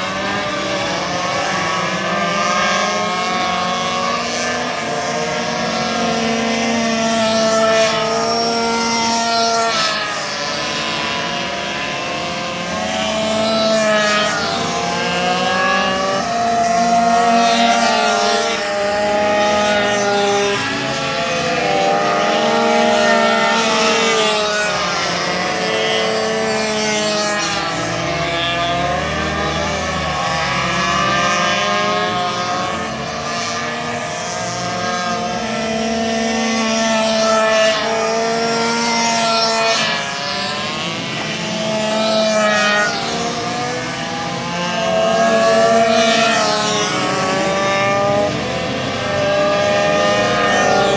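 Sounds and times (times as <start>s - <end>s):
minibike engines revving: 0.0s - 50.9s.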